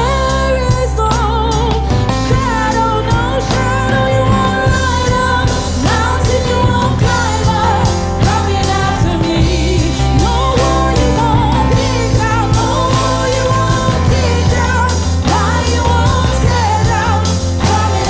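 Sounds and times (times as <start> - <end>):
band playing: 0.0 - 18.0
person singing: 0.0 - 18.0
regular drum beat: 0.0 - 18.0
steady bass line: 0.0 - 18.0.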